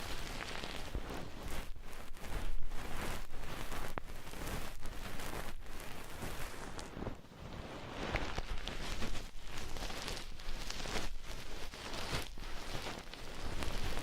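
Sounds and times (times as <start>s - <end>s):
tools scratching on microphone: 0.0s - 14.0s.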